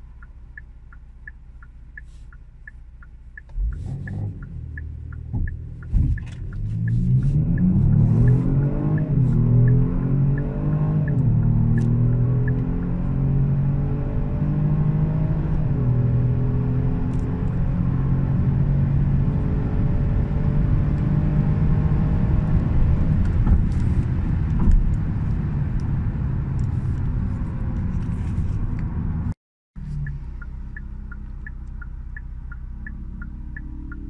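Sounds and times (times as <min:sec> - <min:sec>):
car engine accelerating: 0:00.0 - 0:34.0
road and wind noise: 0:00.0 - 0:34.0.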